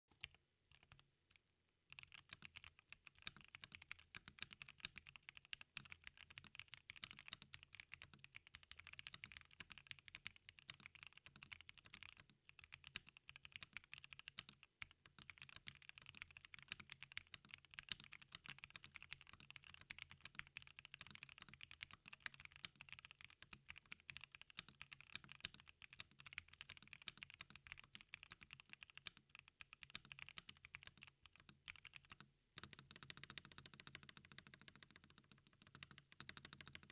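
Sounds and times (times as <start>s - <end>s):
fast typing on mechanical keyboard: 0.2s - 1.0s, 1.9s - 36.9s.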